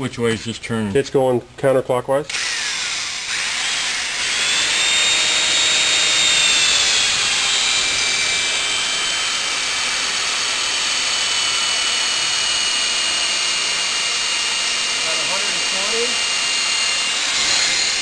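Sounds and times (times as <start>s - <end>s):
air drill whining: 2.3s - 18.0s.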